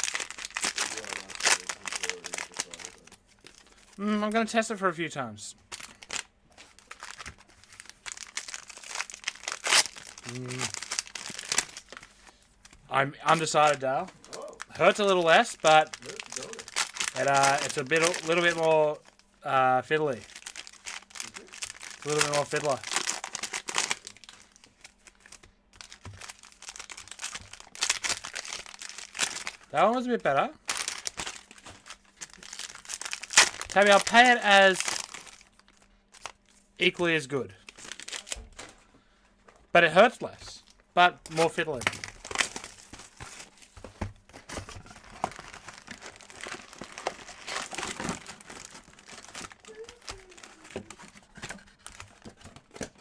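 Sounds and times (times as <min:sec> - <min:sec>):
foil wrapper crinkling and tearing: 0:00.0 - 0:04.4, 0:05.6 - 0:38.8, 0:40.8 - 0:53.0.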